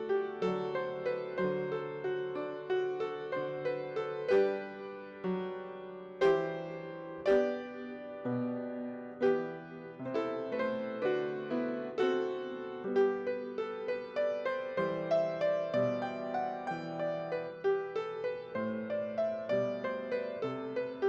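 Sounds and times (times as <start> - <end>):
slow piano piece: 0.0 - 21.0.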